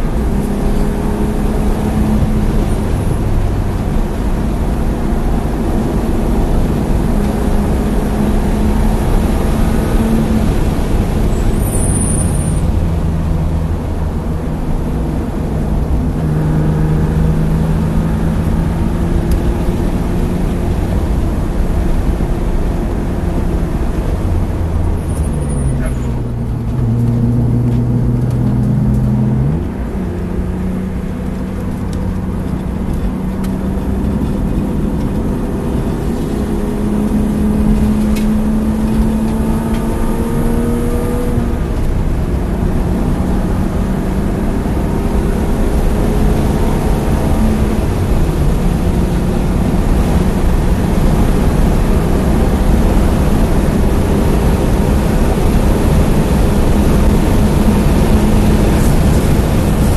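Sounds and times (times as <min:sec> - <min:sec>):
car engine accelerating: 0:00.0 - 0:59.9
wind and tyre noise: 0:00.0 - 0:59.9.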